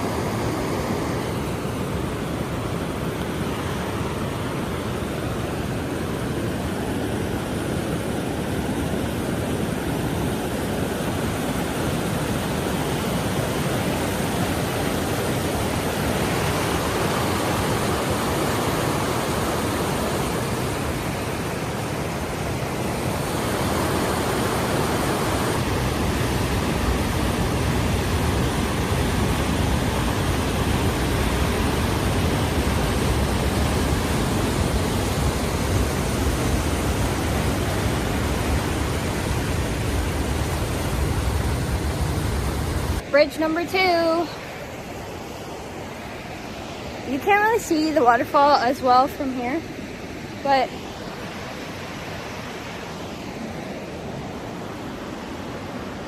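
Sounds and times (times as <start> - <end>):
river and waterfall rushing: 0.0 - 56.0.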